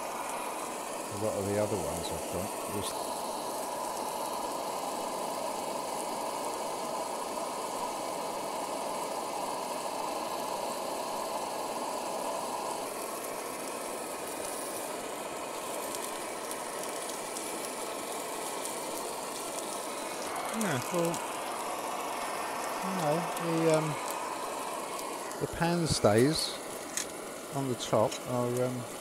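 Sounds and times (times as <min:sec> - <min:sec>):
gas burner running: 0:00.0 - 0:29.0
steak sizzling: 0:00.0 - 0:29.0.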